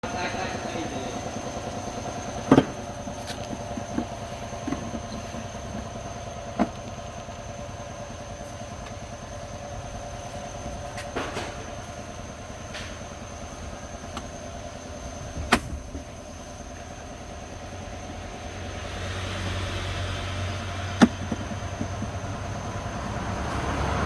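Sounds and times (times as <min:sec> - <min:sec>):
machine humming and whining: 0:00.0 - 0:24.0.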